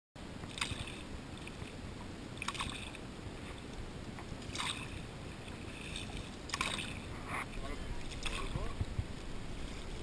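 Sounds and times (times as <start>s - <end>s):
low steady rumble: 0.2s - 10.0s
canoe paddle splashing in water: 0.4s - 1.8s, 2.4s - 10.0s.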